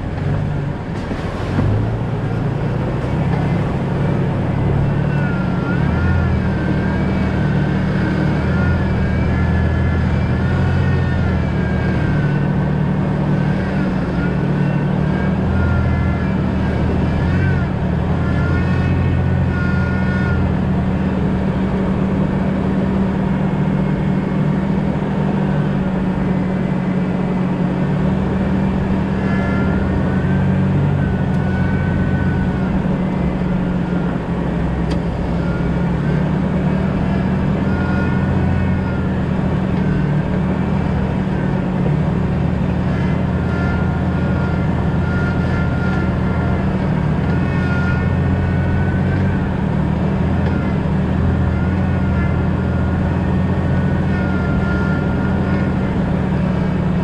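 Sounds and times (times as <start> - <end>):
engine and road drone: 0.0 - 57.0.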